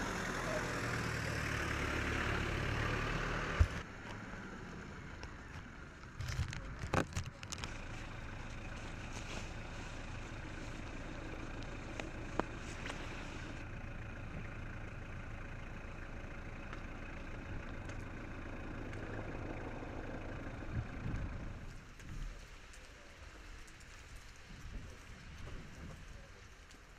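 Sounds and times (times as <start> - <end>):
engine idling: 0.0 - 3.9, 5.0 - 26.9.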